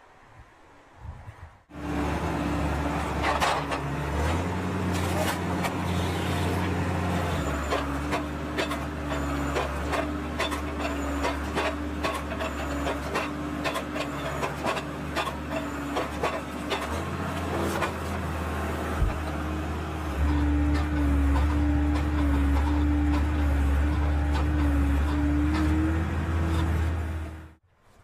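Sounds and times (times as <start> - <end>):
engine and hydraulics running: 1.7 - 27.6.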